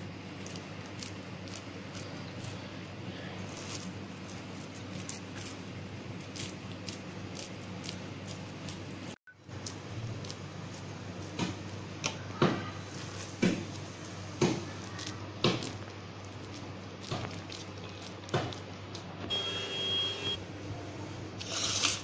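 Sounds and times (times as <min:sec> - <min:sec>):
dough squishing in hands: 0:00.0 - 0:19.4.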